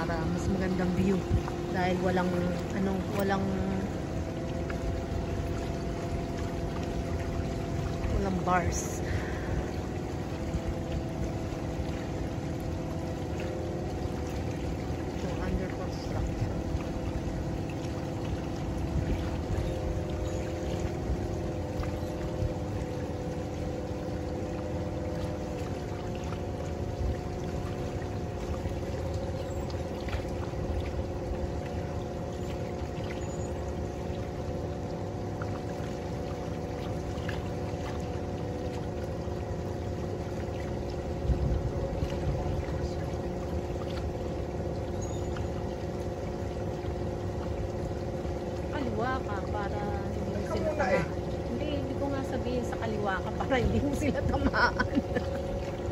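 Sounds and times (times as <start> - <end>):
boat motor whining: 0.0 - 55.9
water and air rushing: 0.0 - 55.9.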